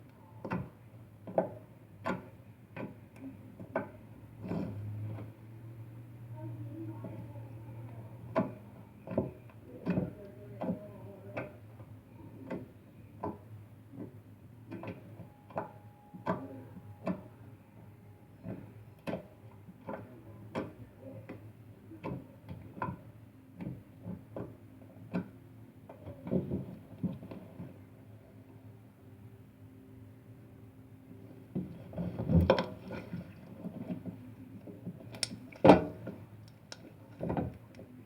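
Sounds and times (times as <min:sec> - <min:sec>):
low steady hum: 0:02.4 - 0:38.0.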